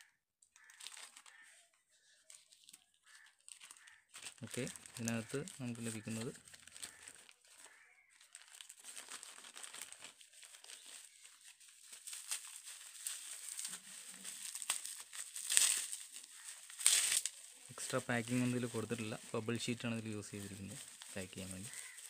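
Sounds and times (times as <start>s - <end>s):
plastic packaging crinkling: 0.5s - 22.0s.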